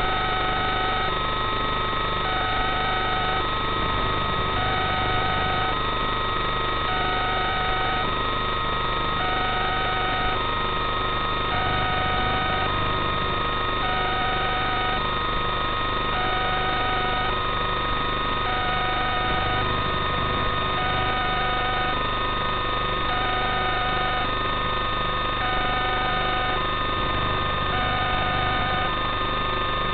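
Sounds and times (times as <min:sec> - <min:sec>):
electronic hum and hiss: 0:00.0 - 0:29.9.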